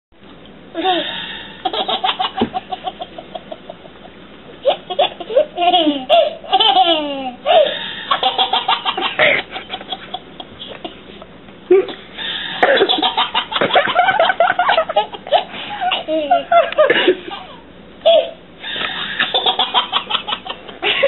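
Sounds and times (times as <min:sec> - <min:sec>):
baby laughing: 0:00.8 - 0:04.0, 0:04.6 - 0:21.0.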